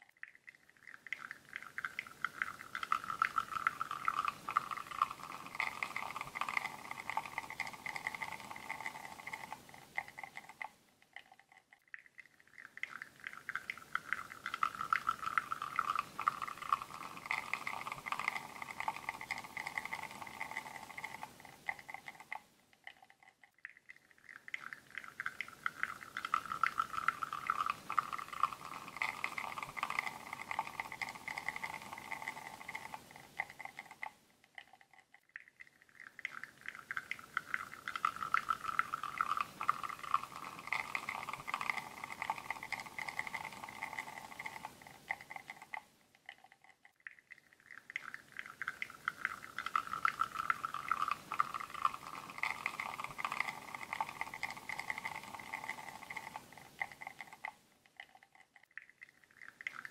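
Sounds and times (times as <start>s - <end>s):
espresso trickling into cup: 0.9s - 10.7s, 12.6s - 22.4s, 24.3s - 34.1s, 36.0s - 45.8s, 47.8s - 57.6s.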